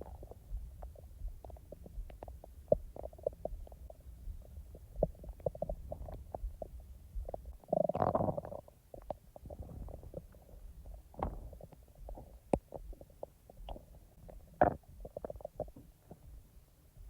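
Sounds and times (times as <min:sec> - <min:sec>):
stomach gurgling: 0:00.0 - 0:16.4.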